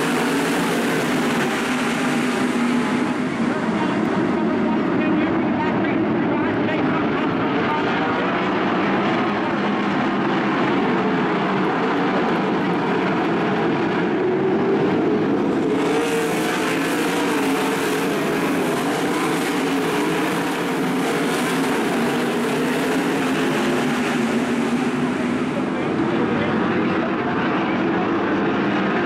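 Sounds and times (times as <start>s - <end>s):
racing car engines droning: 0.0s - 29.0s.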